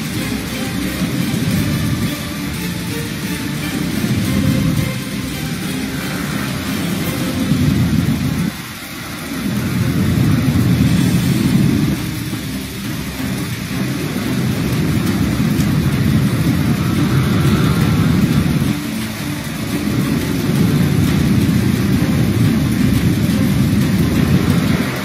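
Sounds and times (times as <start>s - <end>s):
deep low rumble: 0.0s - 25.0s
heavy rain: 0.0s - 25.0s.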